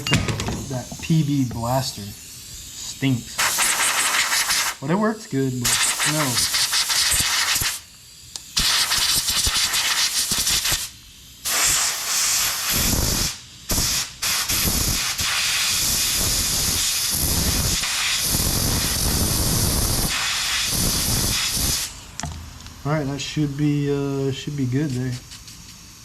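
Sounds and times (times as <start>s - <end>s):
pressurized spray hissing: 0.5s - 4.8s, 5.5s - 22.2s.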